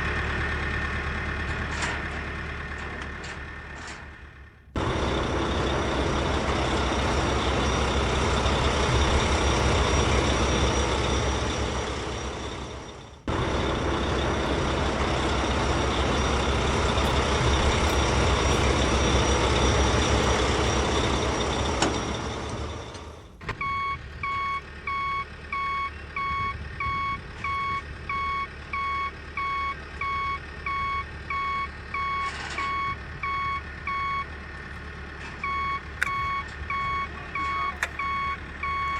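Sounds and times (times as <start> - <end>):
heavy truck diesel engine rumbling: 0.0 - 38.9
truck reversing alarm beeping: 0.0 - 38.9.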